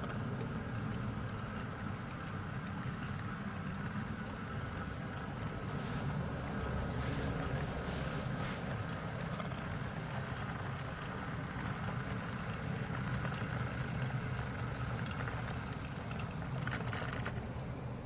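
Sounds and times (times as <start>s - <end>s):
model train humming: 0.0s - 18.0s.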